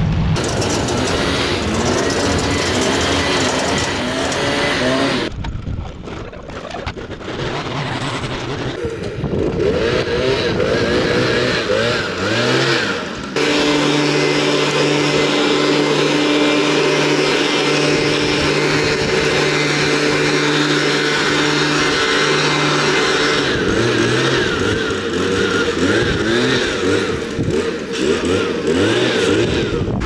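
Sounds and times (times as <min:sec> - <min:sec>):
engine running: 0:00.0 - 0:05.3, 0:07.2 - 0:30.0.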